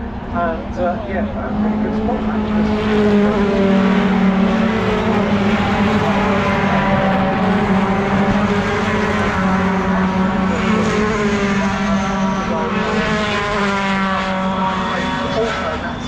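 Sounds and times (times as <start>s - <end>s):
truck engine at high revs: 0.0s - 16.0s.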